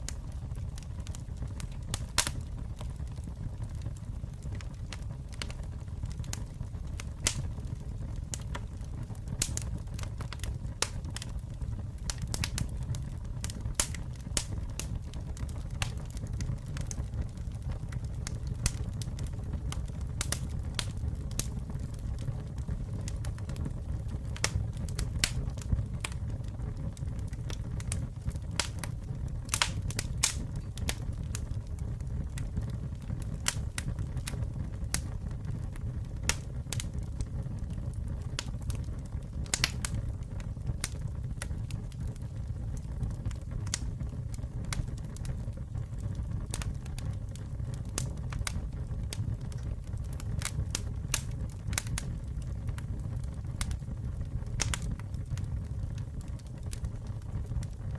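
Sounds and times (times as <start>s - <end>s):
campfire crackles and pops: 0.0s - 57.9s
low rumble of flames: 0.0s - 57.9s.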